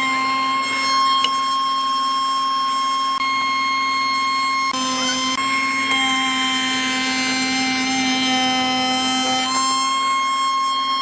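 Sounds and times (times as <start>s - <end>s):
spindle cutter whining: 0.0s - 11.0s.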